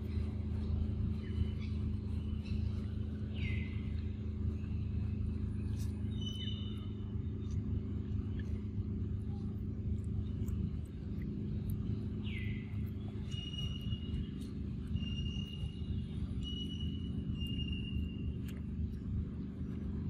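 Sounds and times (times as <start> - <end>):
faint bird calls: 0.0 - 9.6, 10.2 - 18.6
low motor hum: 0.0 - 20.0.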